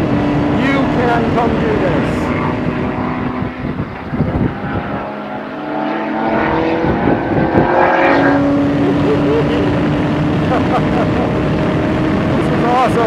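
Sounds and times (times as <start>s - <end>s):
race car engine at speed: 0.0s - 13.0s.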